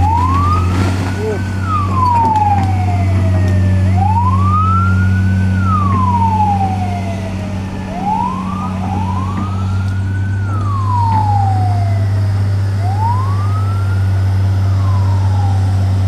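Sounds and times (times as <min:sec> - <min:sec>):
steady low hum: 0:00.0 - 0:16.0
vehicle siren wailing: 0:00.0 - 0:16.0.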